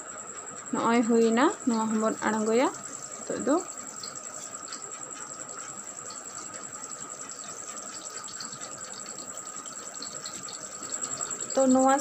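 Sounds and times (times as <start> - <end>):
onions sizzling in oil: 1.2 - 12.0.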